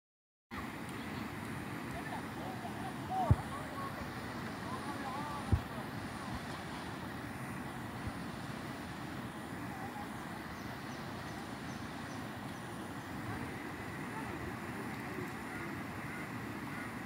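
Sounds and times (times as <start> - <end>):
floodwater rushing: 0.5 - 17.0.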